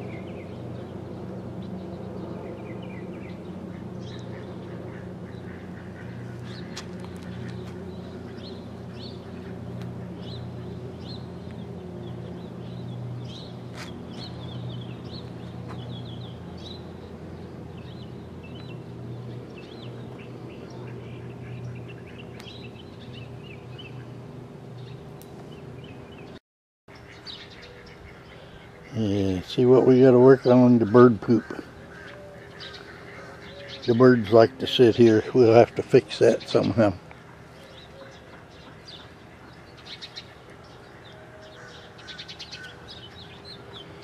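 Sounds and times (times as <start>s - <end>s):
birds chirping: 0.0s - 44.0s
steady low hum: 0.0s - 44.0s.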